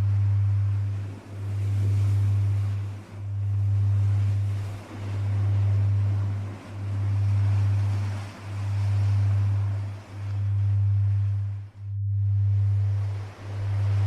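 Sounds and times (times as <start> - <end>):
deep low hum: 0.0 - 14.0
ocean waves: 0.0 - 14.0.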